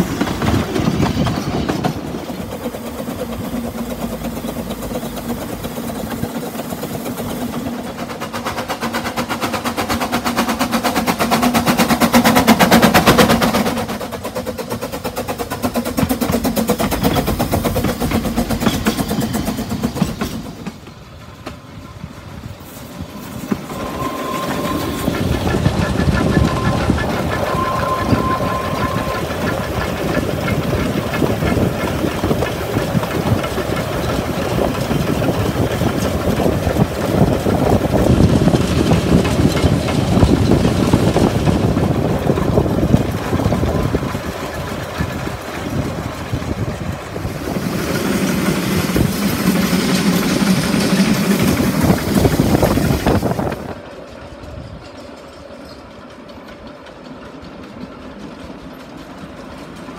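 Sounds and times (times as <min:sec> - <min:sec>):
steam locomotives passing: 0:00.0 - 0:59.9.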